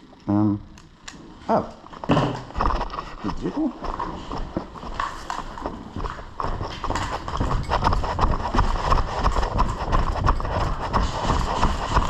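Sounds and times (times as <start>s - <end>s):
fast footsteps: 1.9s - 12.0s.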